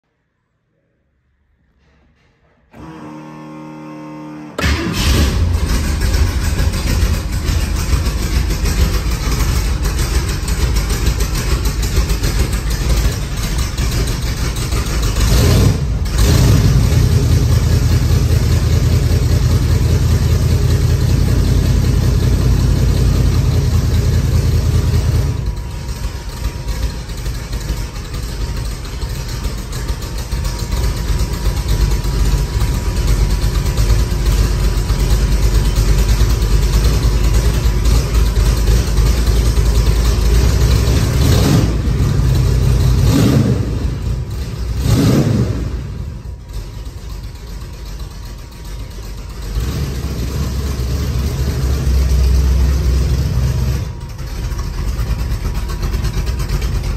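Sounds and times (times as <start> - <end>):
car engine running: 2.8 - 56.9.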